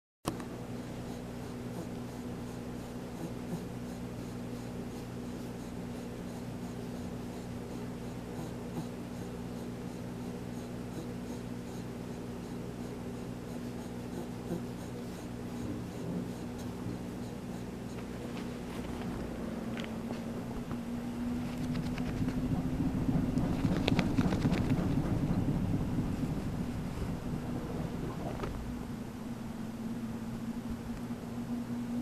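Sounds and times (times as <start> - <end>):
steady low hum: 0.3 - 32.0
pet breathing heavily: 0.7 - 20.6, 21.4 - 28.5.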